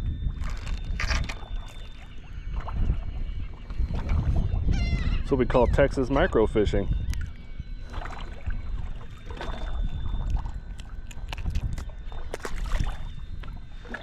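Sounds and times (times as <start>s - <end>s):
water sloshing against boat hull: 0.1s - 14.0s.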